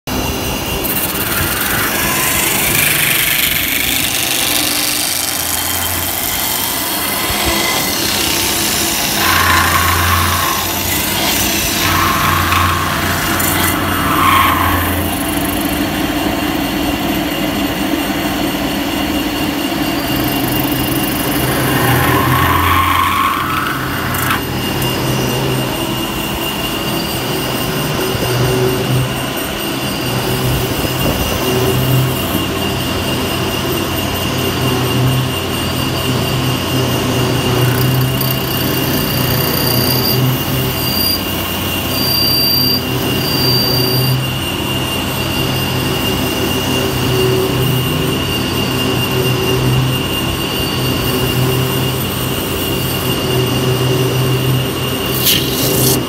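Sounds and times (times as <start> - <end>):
spinning lathe running: 0.1 - 56.0.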